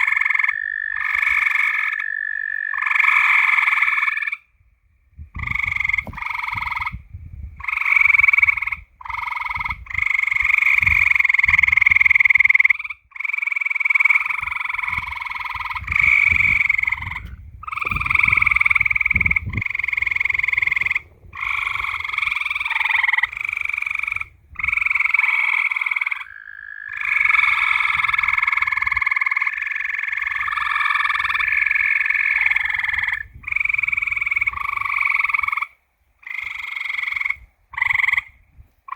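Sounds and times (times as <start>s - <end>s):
chorus of frogs trilling: 0.0s - 4.5s, 5.3s - 38.9s.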